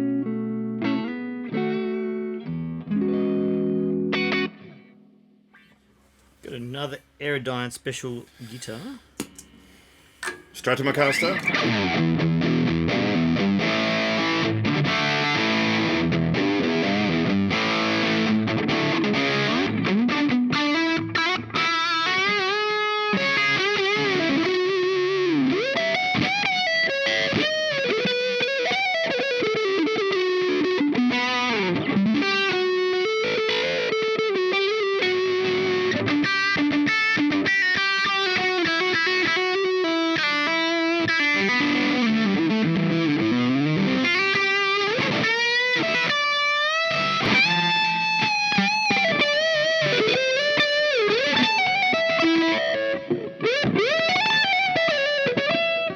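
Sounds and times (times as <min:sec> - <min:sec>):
distorted electric guitar lead: 0:00.0 - 0:05.8, 0:09.6 - 0:55.9.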